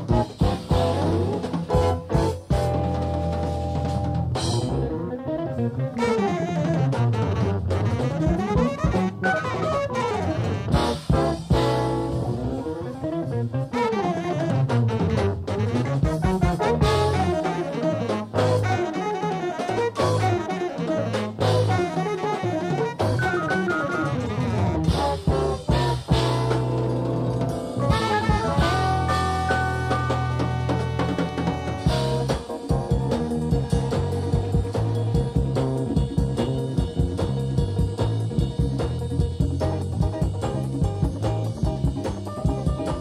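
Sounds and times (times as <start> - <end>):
fast melodic runs: 0.0 - 43.0
jazz-fusion band playing: 0.0 - 43.0.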